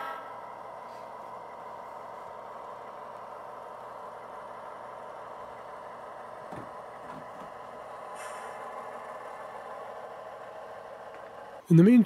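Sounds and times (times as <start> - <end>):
model train diesel engine sound: 0.0 - 12.0.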